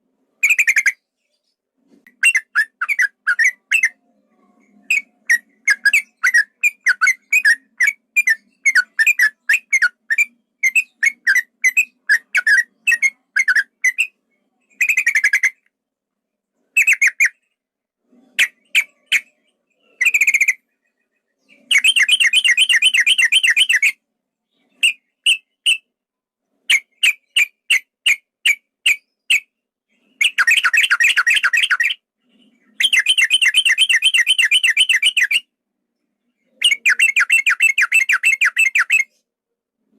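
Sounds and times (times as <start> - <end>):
bird chattering song: 0.4 - 15.7, 16.8 - 17.5, 18.2 - 25.9, 26.7 - 35.5, 36.2 - 39.2.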